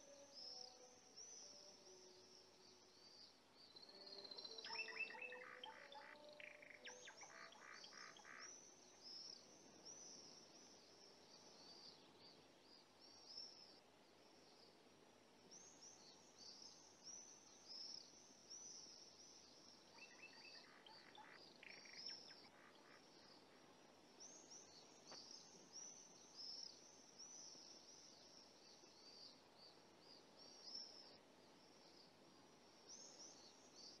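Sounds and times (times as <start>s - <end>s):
faint birds chirping: 0.0s - 34.0s
film soundtrack hiss: 0.0s - 34.0s.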